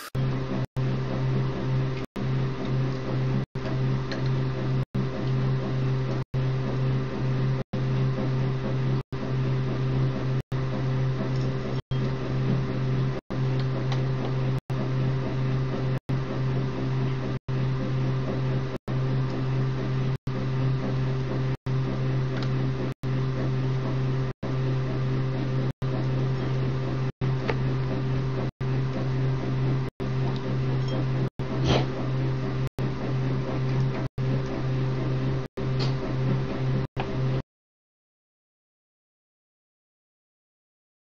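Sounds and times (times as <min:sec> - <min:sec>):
electrical appliance humming: 0:00.0 - 0:37.4.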